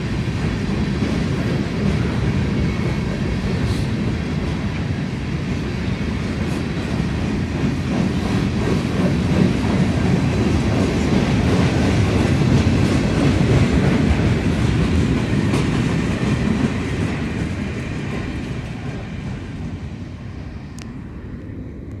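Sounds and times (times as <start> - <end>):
freight train wheels clattering: 0.0 - 20.0.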